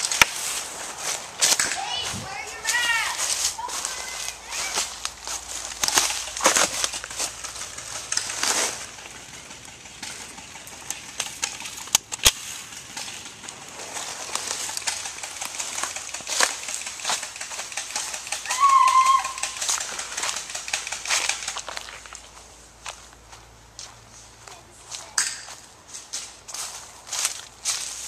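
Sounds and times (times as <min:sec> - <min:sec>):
rustling of leaves: 0:00.0 - 0:28.0.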